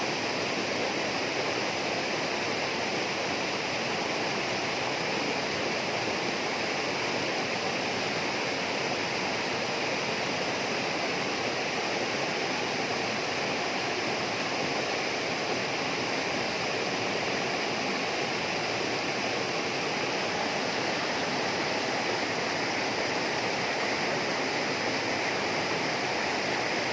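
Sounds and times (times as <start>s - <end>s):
high hiss: 0.0s - 26.9s
rushing water-like wash: 0.0s - 26.9s.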